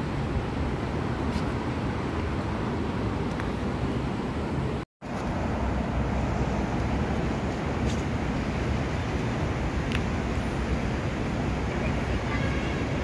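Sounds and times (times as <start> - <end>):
city ambience rumble and hiss: 0.0 - 13.0.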